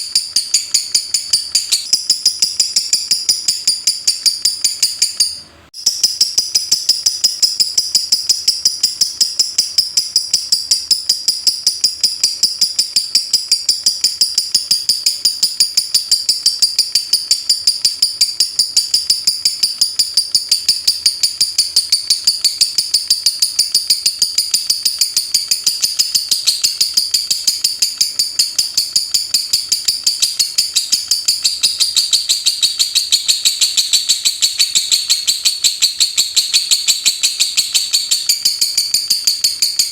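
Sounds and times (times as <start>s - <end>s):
lovebird shrill chips: 0.0s - 39.9s.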